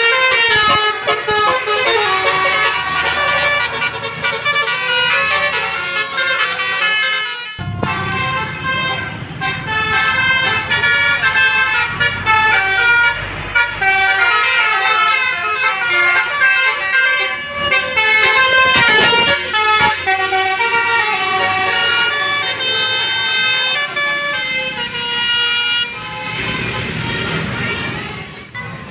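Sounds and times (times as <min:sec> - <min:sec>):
multi-tone air horn melody: 0:00.0 - 0:28.5.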